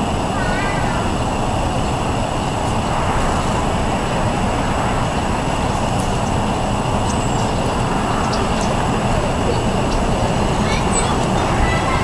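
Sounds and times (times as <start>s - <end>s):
loud rushing noise: 0.0s - 12.0s.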